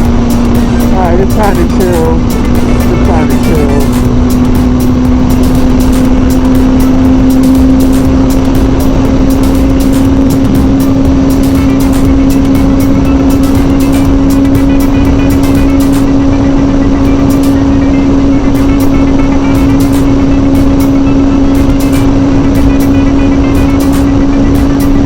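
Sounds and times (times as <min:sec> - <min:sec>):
motorcycle engine at high revs: 0:00.0 - 0:25.0
wind noise rushing: 0:00.0 - 0:25.0.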